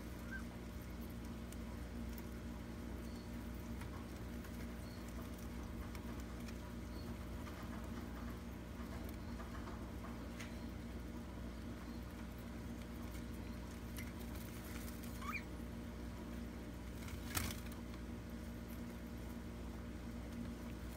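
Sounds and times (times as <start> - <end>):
birds pecking on seed floor: 0.0 - 20.9.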